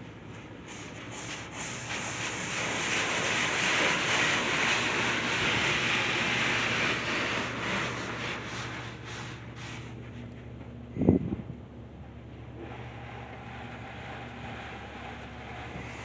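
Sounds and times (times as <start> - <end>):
car wash water jets spraying: 0.0 - 10.3, 12.6 - 16.0.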